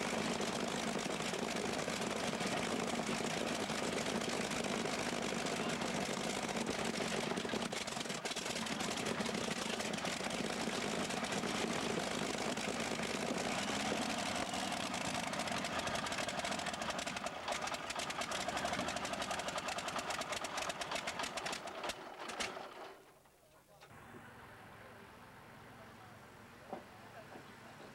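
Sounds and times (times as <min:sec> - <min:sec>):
big tractor engine idling: 0:00.0 - 0:07.8, 0:08.6 - 0:22.8, 0:23.9 - 0:27.9.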